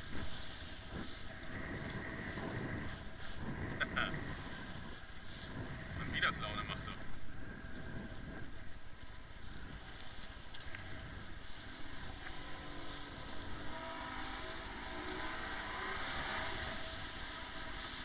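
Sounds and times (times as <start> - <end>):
motorboat engine running: 0.0 - 18.0
rush of wind and water: 0.0 - 18.0.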